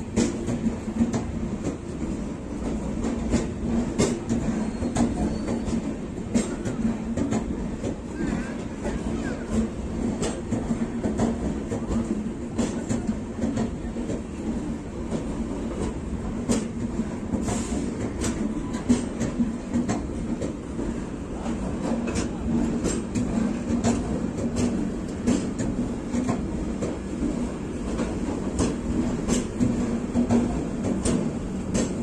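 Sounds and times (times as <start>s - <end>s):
train rumbling past: 0.0s - 32.0s
wheel clacks over rail joints: 0.1s - 1.9s, 2.6s - 14.3s, 15.1s - 32.0s.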